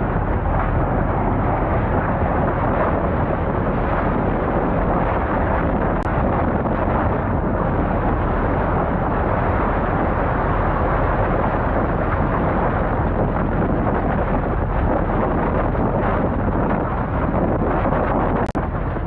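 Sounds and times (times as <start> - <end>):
storm wind roaring: 0.0 - 19.0
wind buffeting microphone: 0.0 - 19.0.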